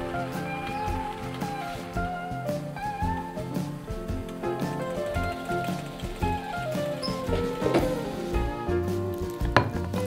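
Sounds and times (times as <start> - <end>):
instrumental melody over a beat: 0.0 - 10.0.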